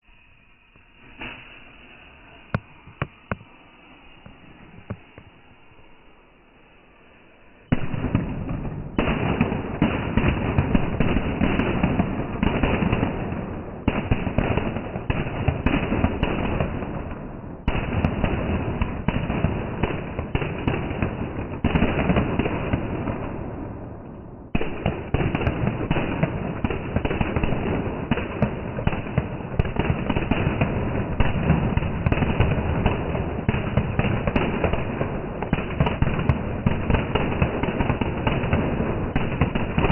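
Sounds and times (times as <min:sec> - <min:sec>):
slowed firecrackers crackling: 0:00.0 - 0:39.9.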